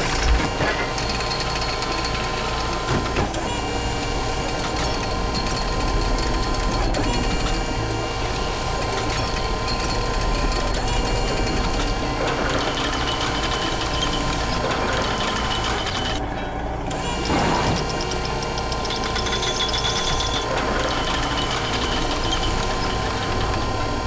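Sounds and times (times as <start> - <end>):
machine engine rumbling: 0.0 - 24.0.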